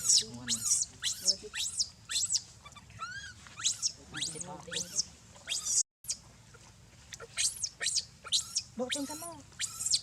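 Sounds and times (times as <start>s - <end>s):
baby monkey screaming: 0.0s - 6.2s, 7.1s - 10.0s.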